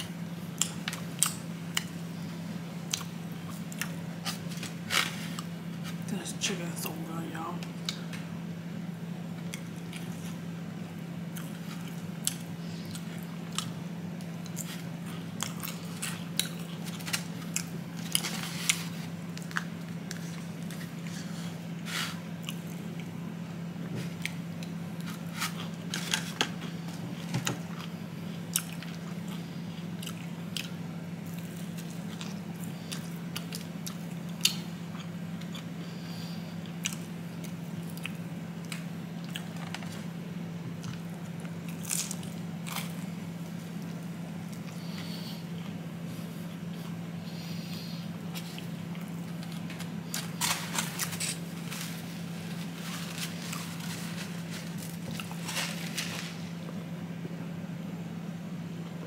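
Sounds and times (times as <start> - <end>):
chewing crispy fried chicken: 0.0 - 6.0, 9.4 - 23.2, 24.0 - 47.2, 48.1 - 56.7
steady low hum: 0.0 - 59.0.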